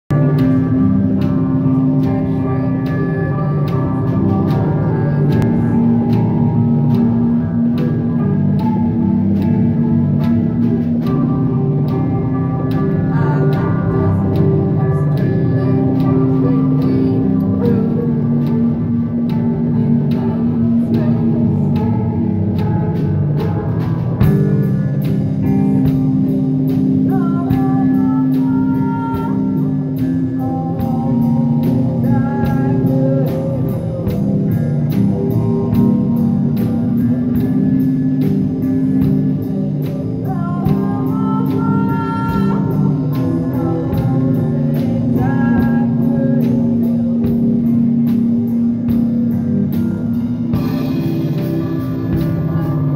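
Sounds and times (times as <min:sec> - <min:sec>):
electric guitars: 0:00.0 - 0:52.9
cymbal-driven drum beat: 0:00.1 - 0:52.9
person singing: 0:00.1 - 0:52.9.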